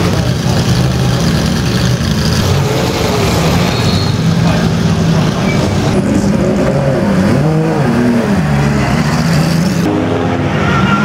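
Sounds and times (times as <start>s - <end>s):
race car engines idling: 0.0s - 10.0s.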